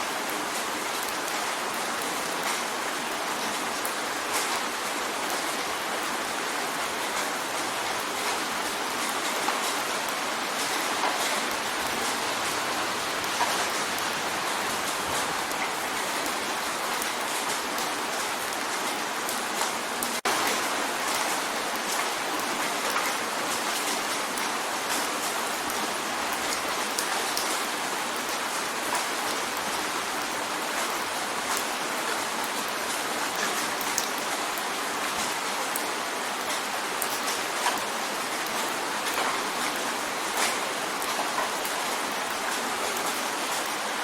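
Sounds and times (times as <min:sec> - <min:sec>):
rain drumming on a window: 0:00.0 - 0:44.0.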